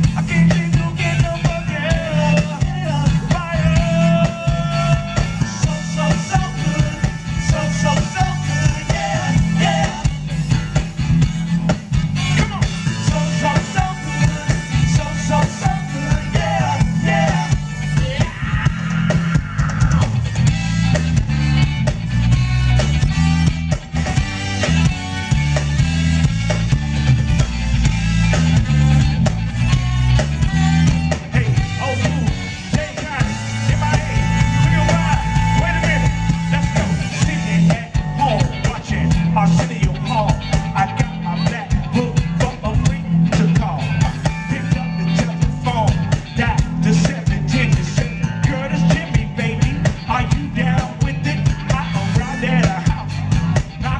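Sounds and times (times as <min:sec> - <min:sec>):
funk band playing: 0:00.0 - 0:53.9.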